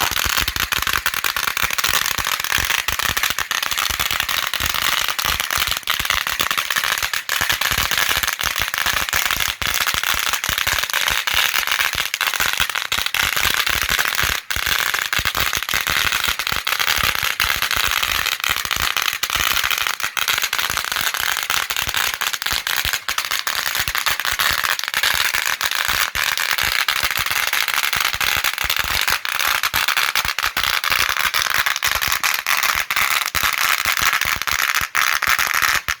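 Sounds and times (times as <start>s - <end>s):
firecrackers popping and crackling: 0.0s - 36.0s.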